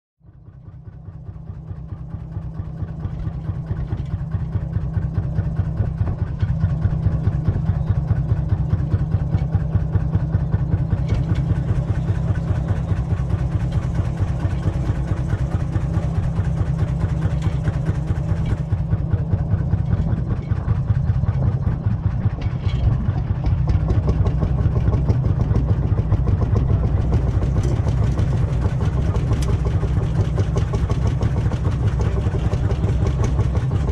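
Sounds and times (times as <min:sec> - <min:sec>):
tractor engine idling: 0:00.3 - 0:33.9.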